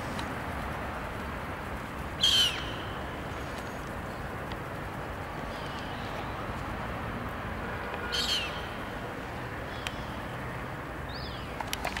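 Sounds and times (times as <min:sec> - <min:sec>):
background noise: 0:00.0 - 0:12.0.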